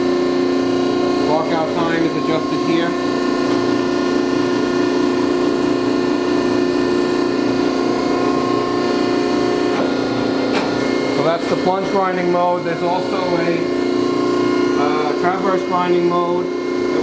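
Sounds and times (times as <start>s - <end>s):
grinder machine hum: 0.0s - 17.0s.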